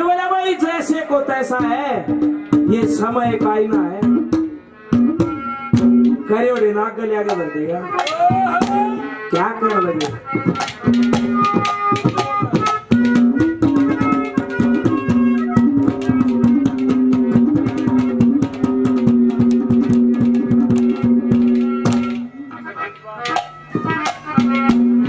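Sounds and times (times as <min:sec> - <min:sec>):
hand drums and pot percussion: 0:01.6 - 0:25.0.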